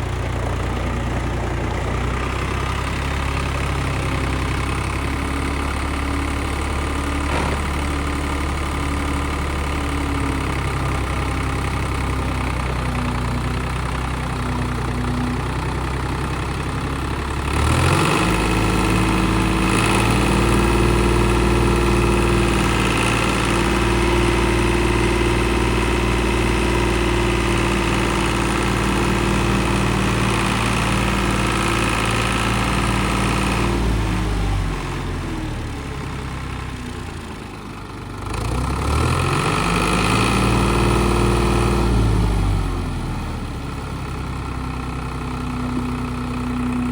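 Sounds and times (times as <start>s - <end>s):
tractor diesel engine: 0.0s - 46.9s.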